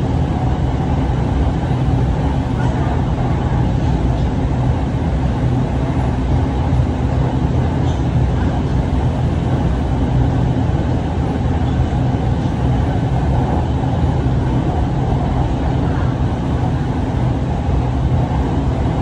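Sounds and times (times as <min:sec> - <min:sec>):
electric train running rumble: 0:00.0 - 0:19.0.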